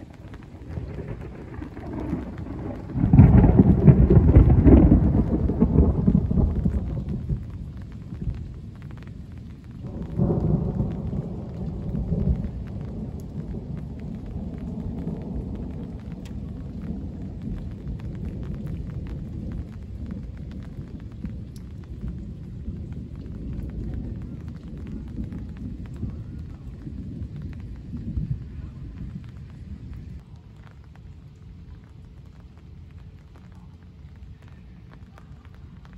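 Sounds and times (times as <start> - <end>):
light rain: 0.0 - 35.9
thunder rumbling: 0.0 - 35.9.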